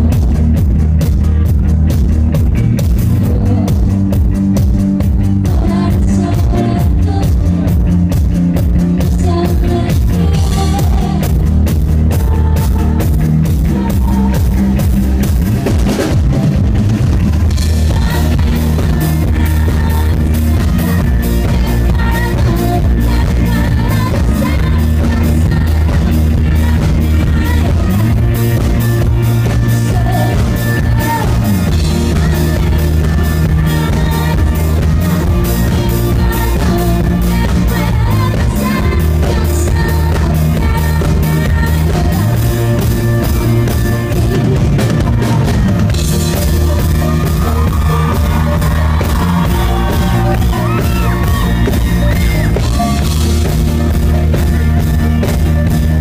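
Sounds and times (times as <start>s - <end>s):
electropop band playing: 0.0s - 56.0s
woman singing: 3.1s - 4.4s, 5.0s - 15.0s, 17.6s - 54.0s.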